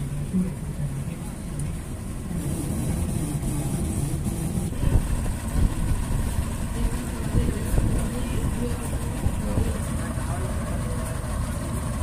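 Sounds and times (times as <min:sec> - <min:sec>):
outboard motors rumbling: 0:00.0 - 0:12.0.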